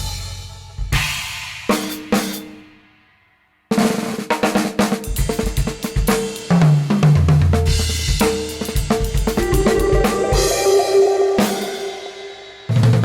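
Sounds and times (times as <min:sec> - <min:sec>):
drum kit playing: 0:00.0 - 0:02.6, 0:03.7 - 0:13.0.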